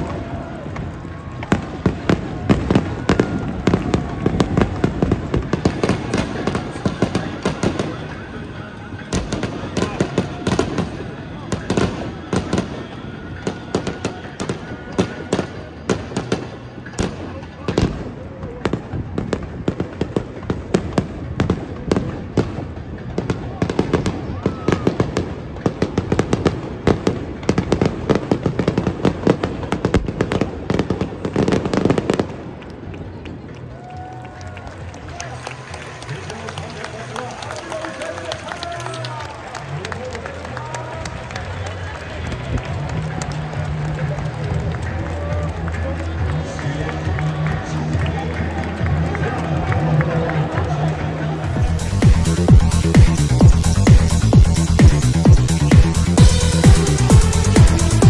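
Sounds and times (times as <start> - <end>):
firework bangs and crackles: 0.0 - 58.0.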